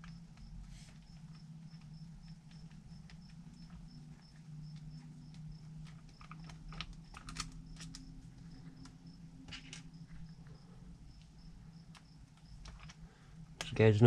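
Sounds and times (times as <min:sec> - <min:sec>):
small parts and tools clicking: 0:00.0 - 0:10.5, 0:11.1 - 0:13.8.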